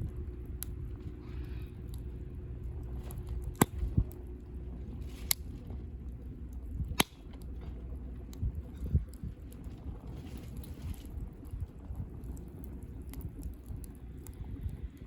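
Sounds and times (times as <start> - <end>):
campfire crackling pops: 0.0 - 1.2, 1.8 - 15.0
low steady fire rumble: 0.0 - 15.0.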